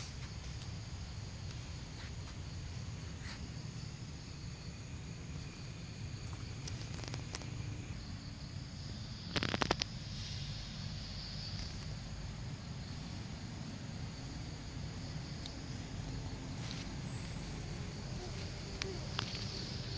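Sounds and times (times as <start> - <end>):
high insect hum: 0.0 - 19.9.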